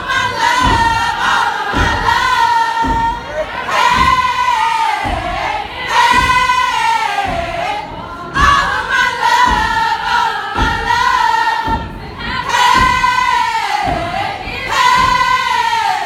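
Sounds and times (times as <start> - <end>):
stomping on a stage: 0.0 - 16.0
women singing a chant: 0.0 - 16.0.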